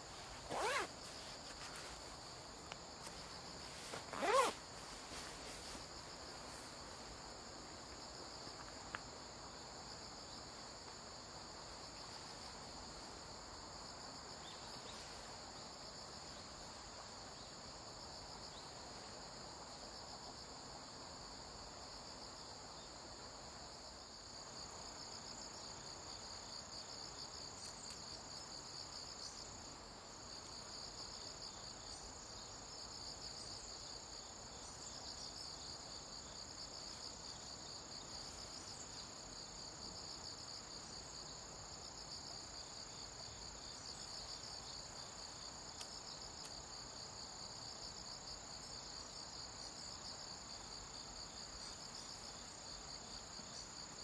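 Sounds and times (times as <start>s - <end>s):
insect high continuous whine: 0.0s - 54.0s.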